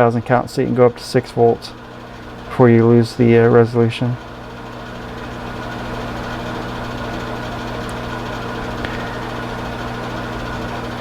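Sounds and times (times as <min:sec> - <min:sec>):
electrical hum: 0:00.0 - 0:11.0
machine whir: 0:00.0 - 0:11.0.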